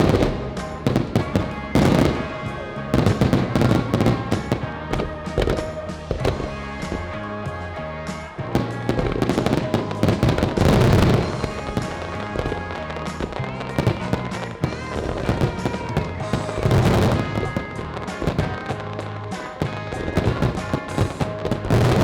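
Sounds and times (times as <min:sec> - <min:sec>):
background music: 0:00.0 - 0:22.0
fireworks banging and crackling: 0:00.0 - 0:22.0.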